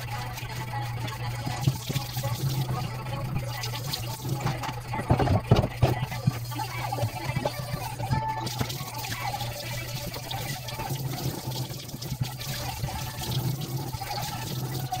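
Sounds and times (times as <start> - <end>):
water running into a steel sink: 0.0 - 15.0.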